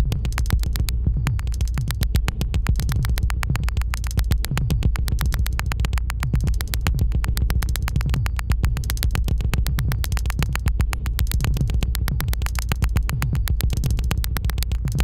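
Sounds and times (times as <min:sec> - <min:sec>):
sharp clicking synth pulses: 0:00.0 - 0:15.0.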